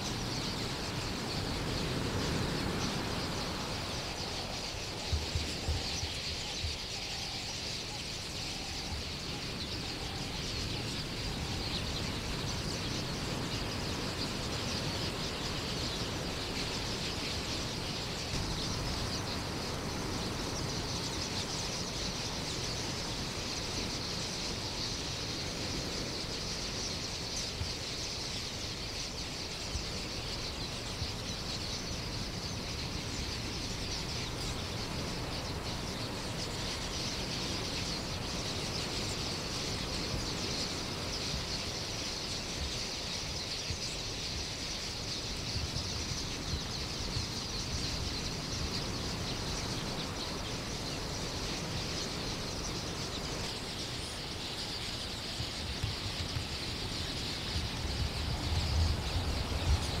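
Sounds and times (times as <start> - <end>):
flock of small birds chirping: 0.0 - 60.0.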